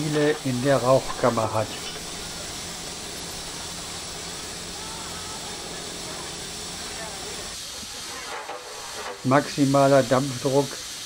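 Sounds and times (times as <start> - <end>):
steam hissing from locomotive: 0.0 - 11.0.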